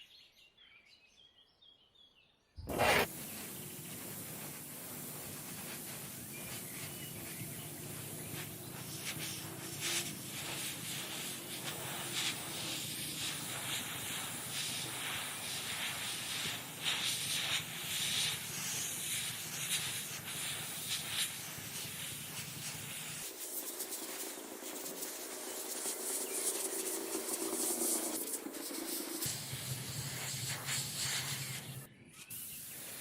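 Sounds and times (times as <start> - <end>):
hissing bursts: 2.6 - 33.0.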